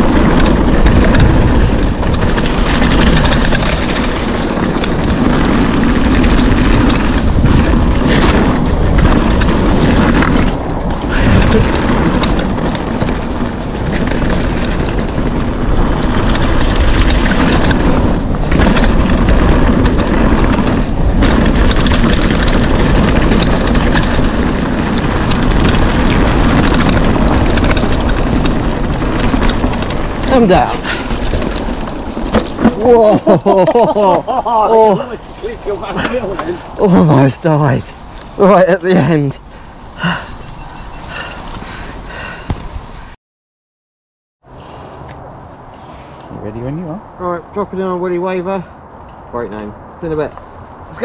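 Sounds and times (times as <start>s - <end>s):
mountain bike rattling: 0.0s - 43.2s, 45.8s - 51.0s
wind buffeting microphone: 0.0s - 43.2s, 45.3s - 51.0s.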